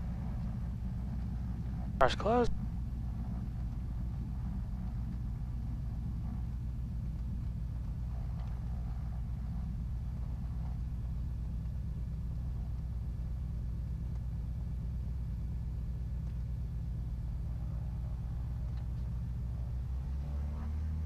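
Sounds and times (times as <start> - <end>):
aircraft engines droning: 0.0 - 21.0.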